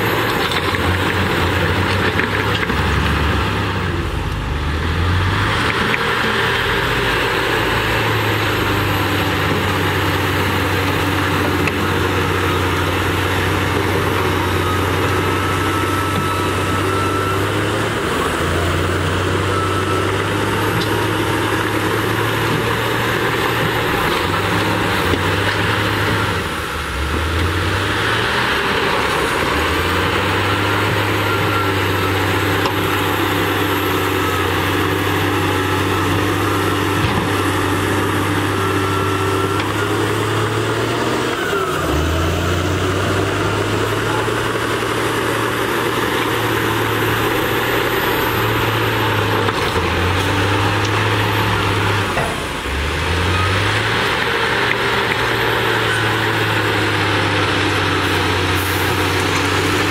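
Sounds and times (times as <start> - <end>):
diesel truck engines running: 0.0 - 59.9.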